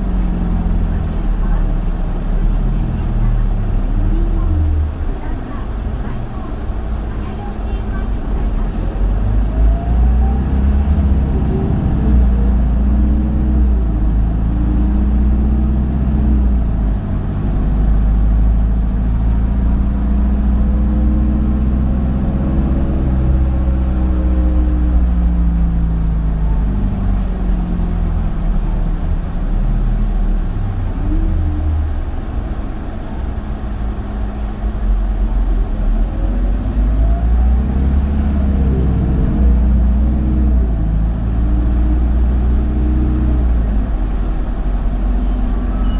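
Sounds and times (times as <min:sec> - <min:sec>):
bus diesel engine rumbling: 0:00.0 - 0:45.9.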